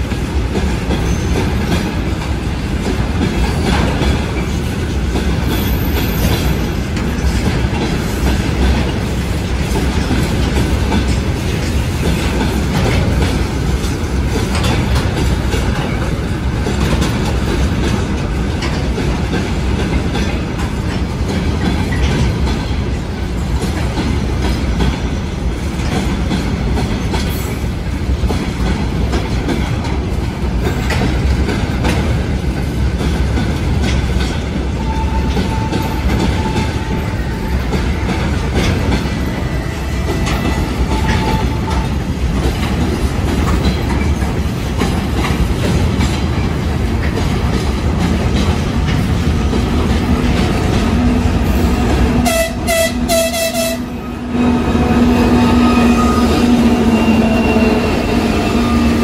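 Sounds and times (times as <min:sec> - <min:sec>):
wheels clicking over rail joints: 0:00.0 - 0:52.5
railway wagons rolling past: 0:00.0 - 0:59.0.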